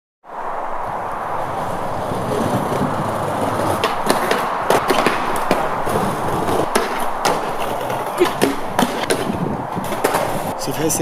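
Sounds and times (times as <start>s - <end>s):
skateboard wheels rolling: 0.3s - 11.0s.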